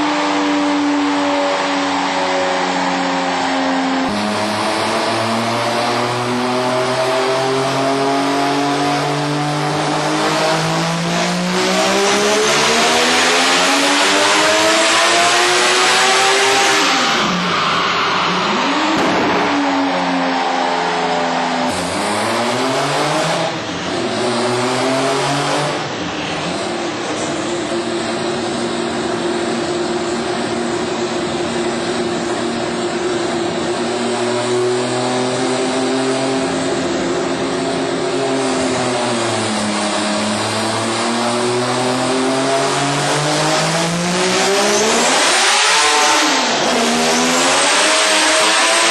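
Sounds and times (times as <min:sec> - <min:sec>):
rotary engine revving: 0:02.6 - 0:28.2, 0:33.5 - 0:48.9.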